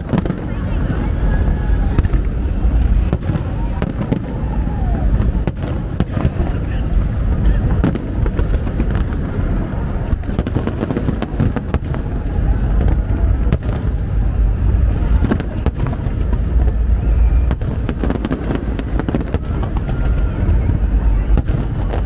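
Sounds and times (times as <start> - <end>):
deep rumble: 0.0 - 22.0
fireworks bangs and crackles: 0.0 - 22.0.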